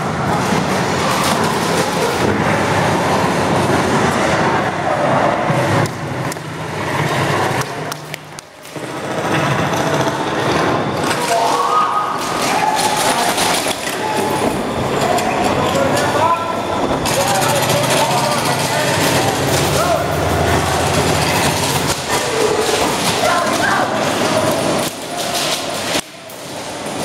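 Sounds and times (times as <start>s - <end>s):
players' voices: 0.0s - 27.0s.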